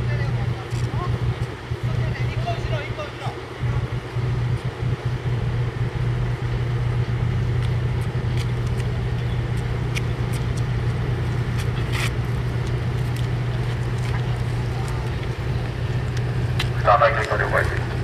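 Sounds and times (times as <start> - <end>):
ship diesel engine drone: 0.0 - 18.0.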